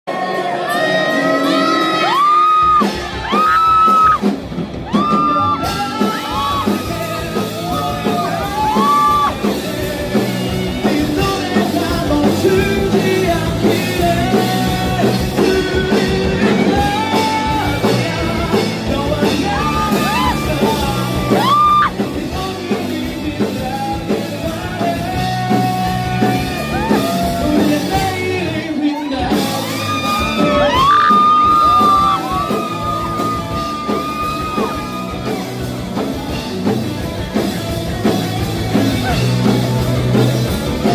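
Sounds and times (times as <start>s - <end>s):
lead singer singing: 0.1s - 40.9s
live rock band: 0.1s - 40.9s.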